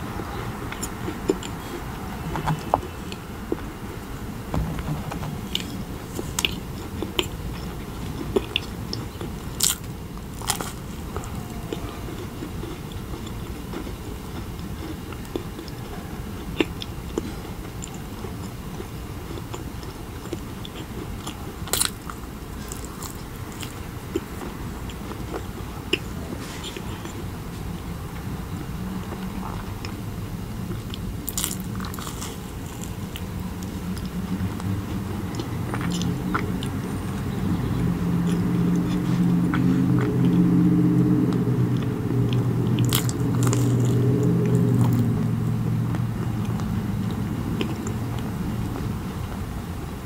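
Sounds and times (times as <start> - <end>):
chewing marshmallow: 0.0 - 4.1, 5.0 - 49.4.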